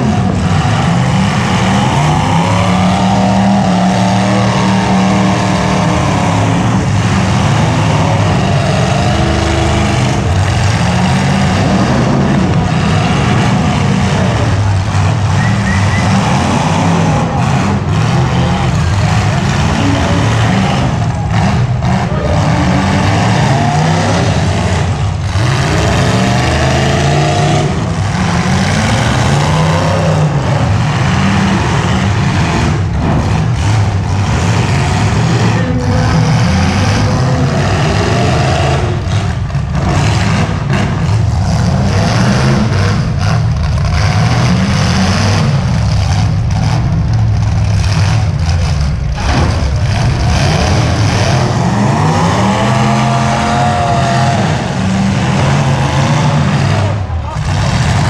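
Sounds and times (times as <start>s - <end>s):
car engines revving hard: 0.0s - 58.0s.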